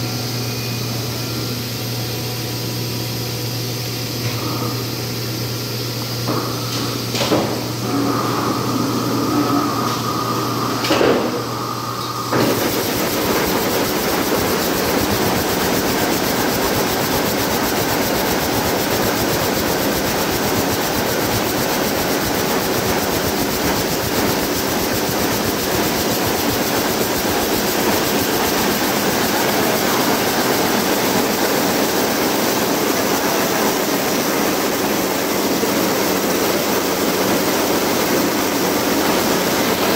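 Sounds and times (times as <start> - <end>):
hum with whine: 0.0 - 39.9.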